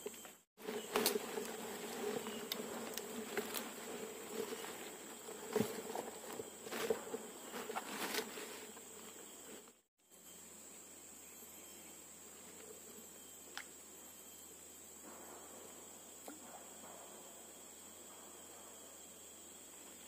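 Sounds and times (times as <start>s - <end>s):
flying insect buzzing: 0.0s - 20.0s
high-pitched insect whine: 0.0s - 20.0s.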